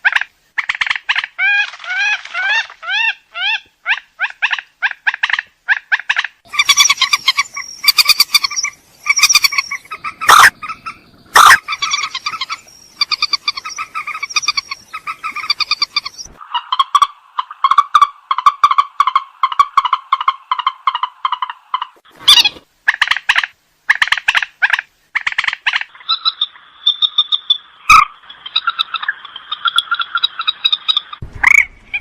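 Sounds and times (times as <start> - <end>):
rail bird croaking calls: 0.0 - 32.0.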